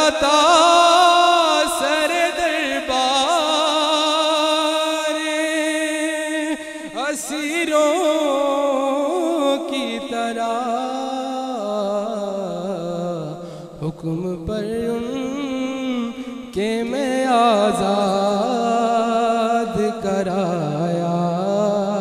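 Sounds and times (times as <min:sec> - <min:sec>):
man singing unaccompanied: 0:00.0 - 0:22.0.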